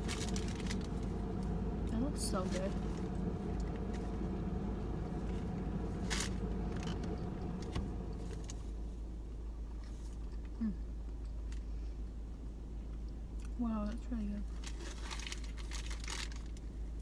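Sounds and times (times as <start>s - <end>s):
low hum inside car: 0.0s - 17.0s.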